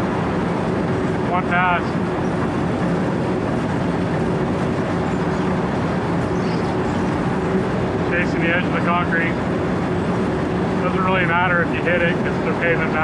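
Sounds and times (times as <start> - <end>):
asphalt milling machine humming: 0.0 - 13.0.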